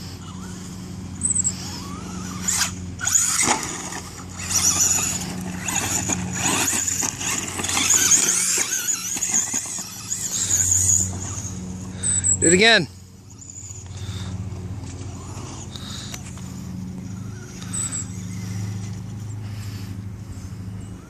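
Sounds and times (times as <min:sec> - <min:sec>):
rc truck motor whining: 0:00.0 - 0:21.0.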